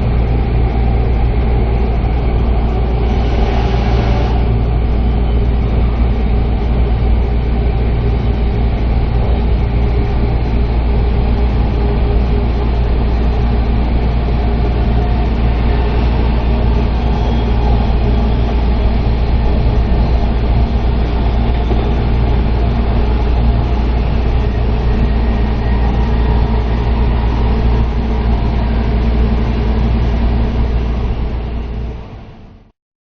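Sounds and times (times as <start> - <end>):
steady tones: 0.0 - 32.4
train running rumble: 0.0 - 32.7.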